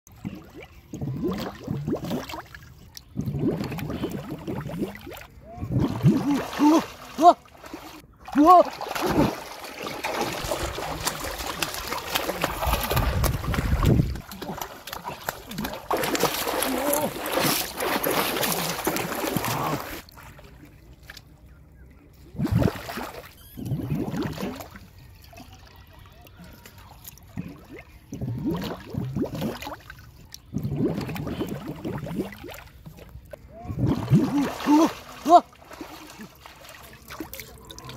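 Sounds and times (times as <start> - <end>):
river water bubbling and gurgling: 0.1 - 37.9.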